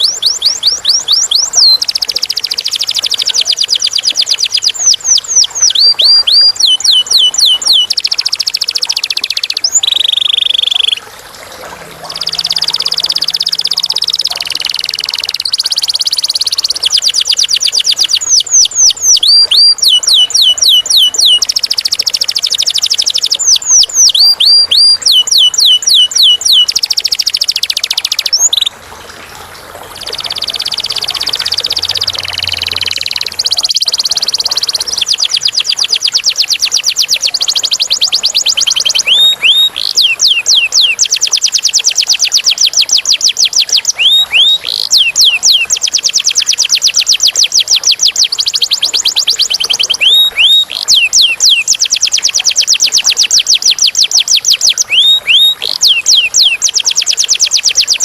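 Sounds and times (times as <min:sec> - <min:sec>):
canary singing trills: 0:00.0 - 0:28.8, 0:29.8 - 0:58.0.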